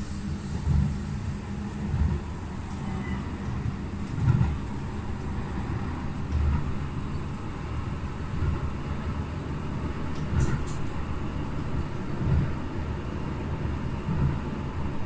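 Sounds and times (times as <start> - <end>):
tram wheels rumbling on rail: 0.0 - 15.0.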